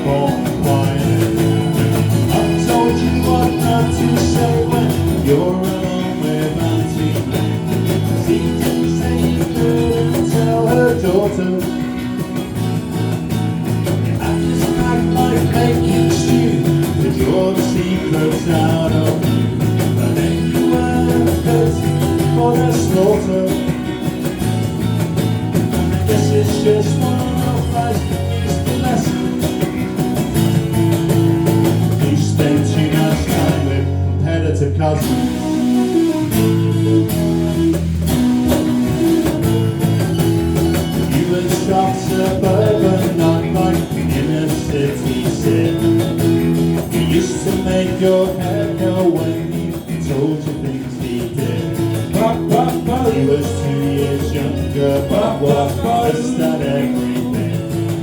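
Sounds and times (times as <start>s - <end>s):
guitar playing: 0.0s - 58.0s
live band music: 0.0s - 58.0s.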